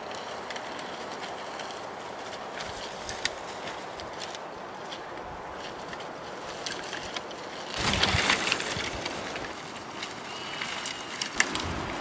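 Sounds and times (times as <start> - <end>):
footsteps on dry grass: 0.0 - 12.0
scraping rustle: 0.0 - 12.0.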